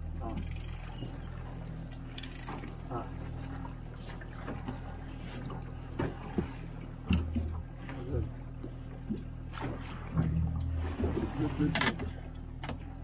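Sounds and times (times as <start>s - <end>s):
outboard motor running: 0.0s - 13.0s
water washing behind boat: 0.0s - 13.0s.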